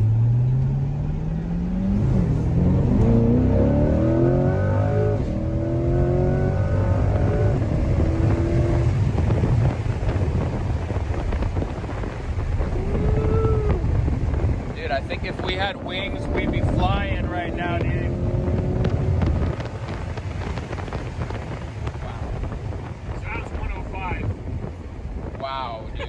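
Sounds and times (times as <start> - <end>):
car engine revving: 0.0 - 26.0
low road rumble: 0.0 - 26.0.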